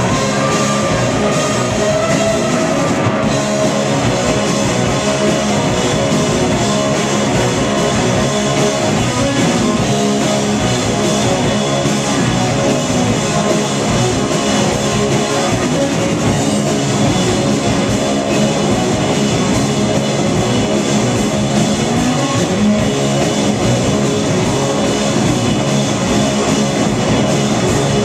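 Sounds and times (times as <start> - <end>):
bass guitar: 0.0 - 28.0
drum kit: 0.0 - 28.0
electric guitars: 0.0 - 28.0.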